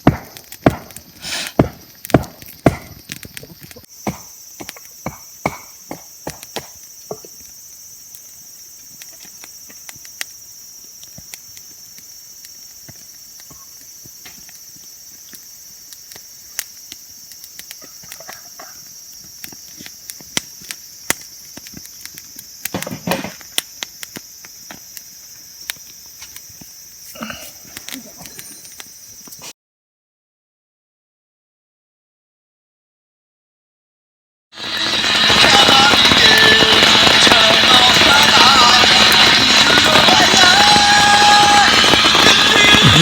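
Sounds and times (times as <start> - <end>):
night insects chorus: 0.0 - 29.5, 34.6 - 43.0.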